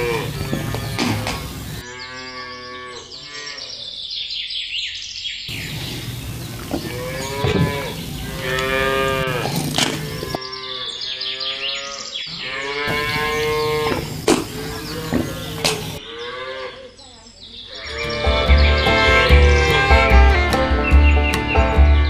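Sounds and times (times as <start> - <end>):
cows mooing: 0.0 - 4.0, 5.5 - 16.9, 17.7 - 20.5.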